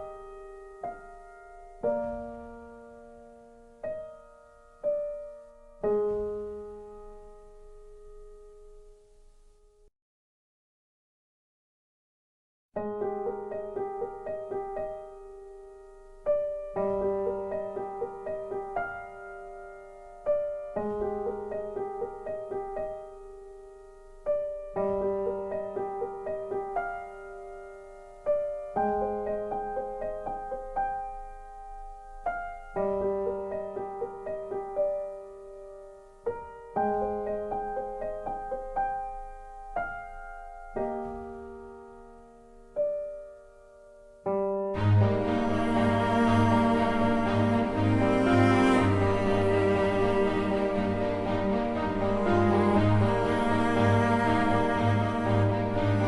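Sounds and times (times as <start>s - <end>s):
slow gentle piano music: 0.0s - 9.9s, 12.8s - 56.0s.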